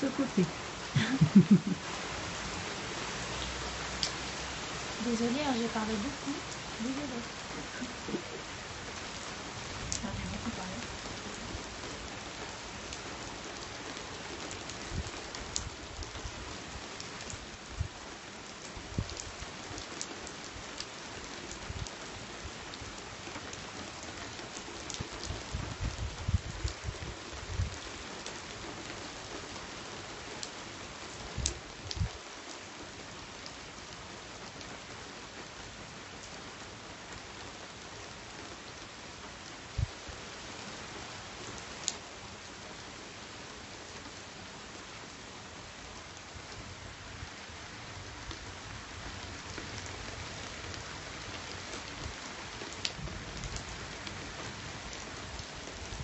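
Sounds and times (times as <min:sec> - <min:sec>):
raindrops striking close: 0:00.0 - 0:44.9, 0:47.2 - 0:56.0
steady rain: 0:00.0 - 0:56.0.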